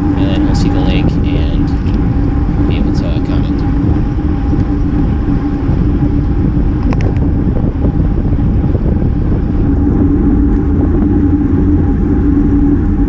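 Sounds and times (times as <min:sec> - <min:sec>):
bicycle road noise rumble: 0:00.0 - 0:13.0
constant hum: 0:00.0 - 0:13.0
wind rush on microphone: 0:00.0 - 0:13.0.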